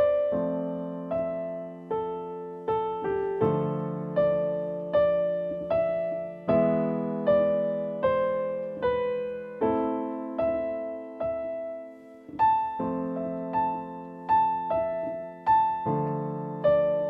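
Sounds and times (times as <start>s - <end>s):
slow piano improvisation: 0.0s - 17.0s.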